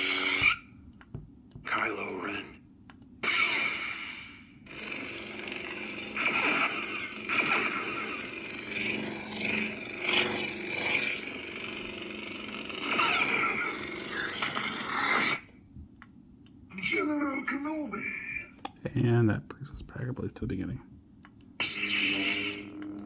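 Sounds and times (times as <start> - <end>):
crackling lightsaber hum: 0.0 - 17.1, 17.9 - 23.0.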